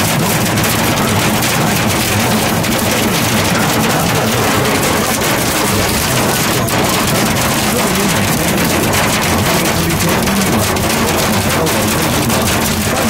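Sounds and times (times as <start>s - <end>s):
hail clattering on vehicle roof: 0.0s - 13.0s.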